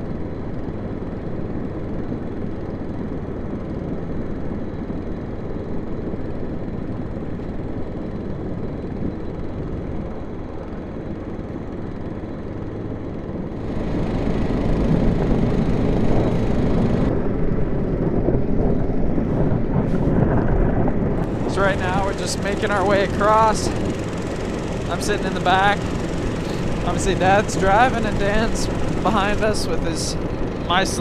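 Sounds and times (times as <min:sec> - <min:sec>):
rushing wind: 0:00.0 - 0:31.0
snowmobile engines droning: 0:00.0 - 0:31.0.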